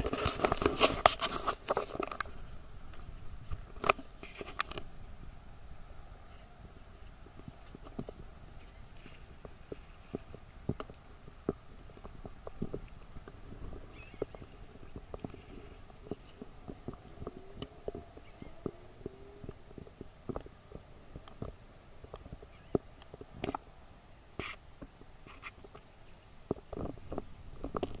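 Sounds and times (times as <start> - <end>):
small clicks and pops: 0.0 - 4.9, 7.0 - 13.4, 14.0 - 23.7, 26.5 - 28.0.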